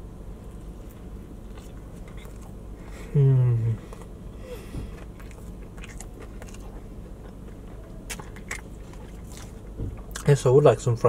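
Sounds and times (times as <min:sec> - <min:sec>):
person chewing: 0:00.4 - 0:10.3.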